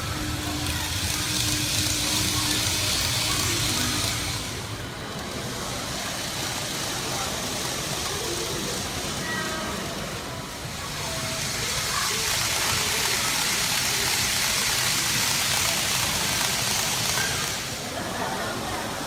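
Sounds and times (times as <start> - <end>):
faint voices: 0.0 - 19.0
model train running on track: 0.0 - 19.0.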